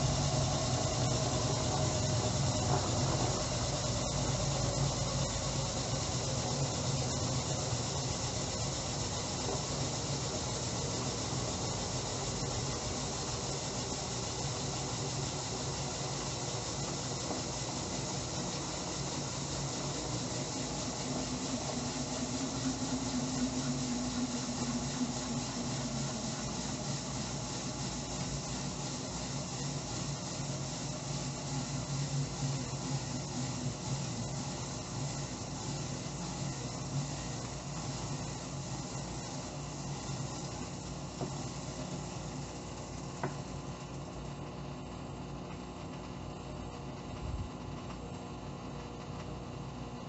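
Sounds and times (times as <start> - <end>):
steady hiss: 0.0 - 45.5
washing machine motor hum: 0.0 - 50.0.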